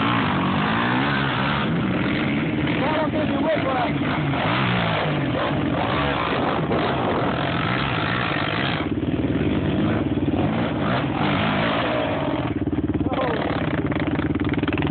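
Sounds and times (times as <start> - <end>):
quad engine revving: 0.0 - 14.9.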